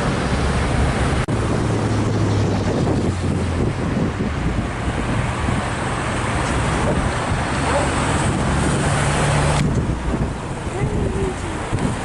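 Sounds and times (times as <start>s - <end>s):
low engine hum: 0.0s - 12.0s
road traffic: 0.0s - 12.0s
wind: 0.0s - 12.0s.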